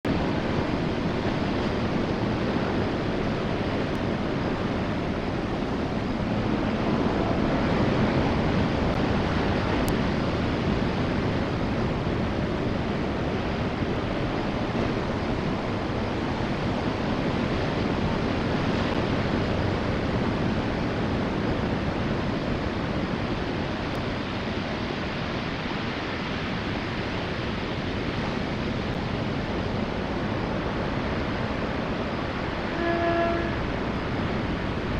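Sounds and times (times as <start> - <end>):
ocean surf: 0.0 - 34.9.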